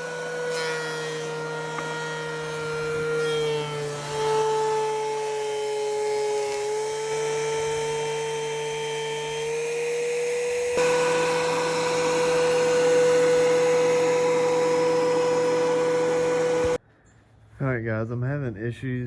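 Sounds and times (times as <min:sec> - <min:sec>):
bandsaw whining: 0:00.0 - 0:16.8.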